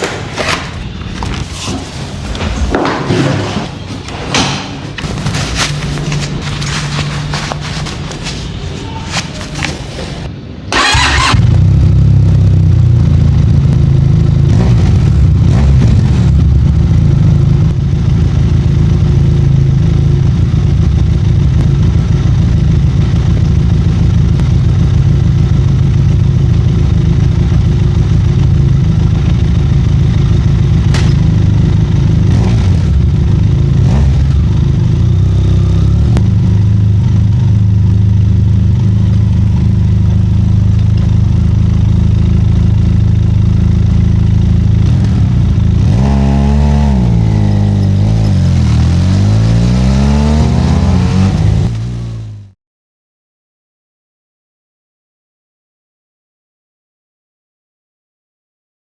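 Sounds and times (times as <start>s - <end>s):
motorcycle engine running: 4.8s - 52.6s.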